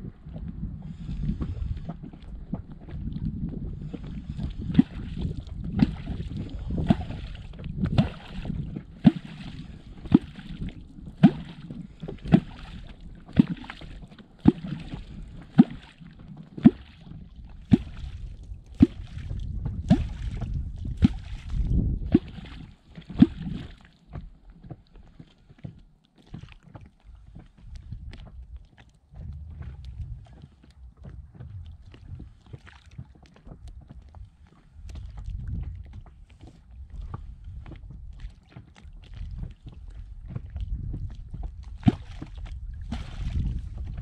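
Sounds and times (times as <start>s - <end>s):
hollow wooden clonk in water: 0.0s - 44.0s
water splashing and gurgling: 0.0s - 44.0s.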